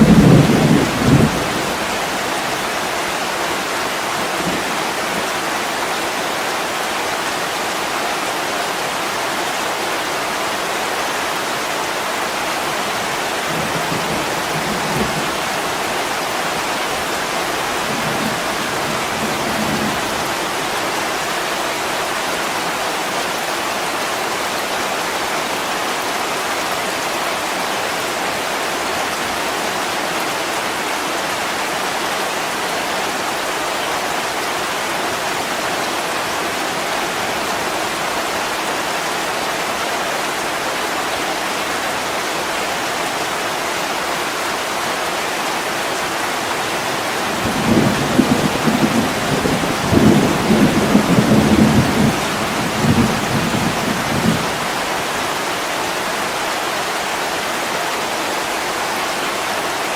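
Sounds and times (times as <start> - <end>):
heavy rain on a window: 0.0 - 59.9.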